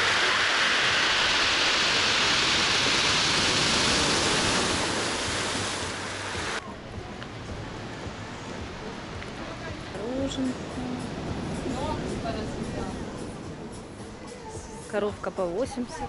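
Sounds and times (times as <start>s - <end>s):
sea surf washing onto beach: 0.0s - 14.0s.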